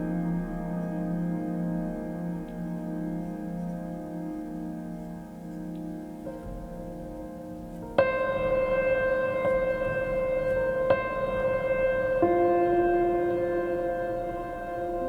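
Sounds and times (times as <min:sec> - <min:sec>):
music of long held chords: 0:00.0 - 0:15.0.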